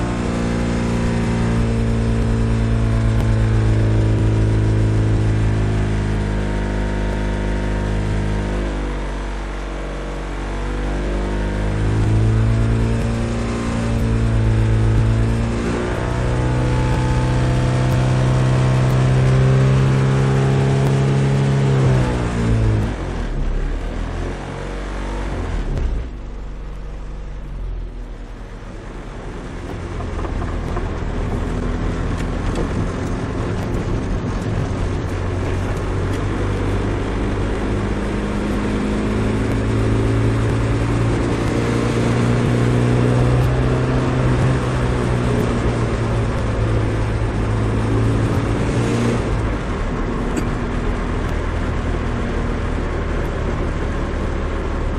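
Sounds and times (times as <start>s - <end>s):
car engine with low exhaust drone: 0.0s - 54.9s.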